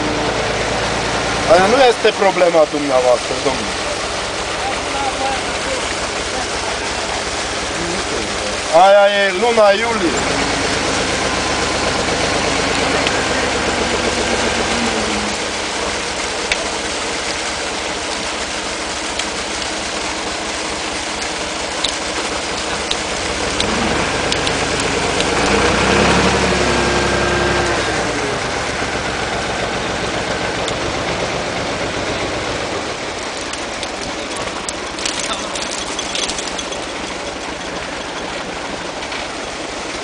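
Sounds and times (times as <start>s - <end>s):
engine running: 0.0s - 40.0s
fish splashing water: 0.0s - 40.0s.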